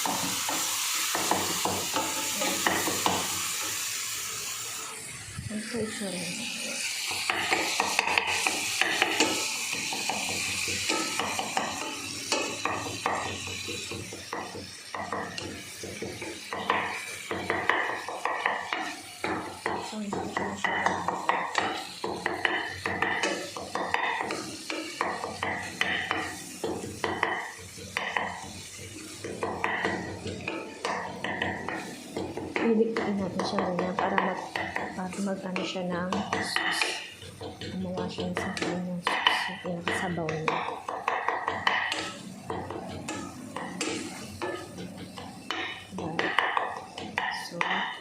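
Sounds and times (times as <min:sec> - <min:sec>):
sauce sizzling: 0:00.0 - 0:48.0
spoon scraping a pan: 0:06.6 - 0:48.0.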